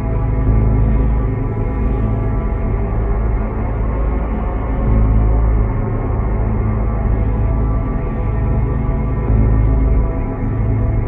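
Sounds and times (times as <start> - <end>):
dark ambient horror music: 0.0 - 11.0
heavy low drone: 0.0 - 11.0.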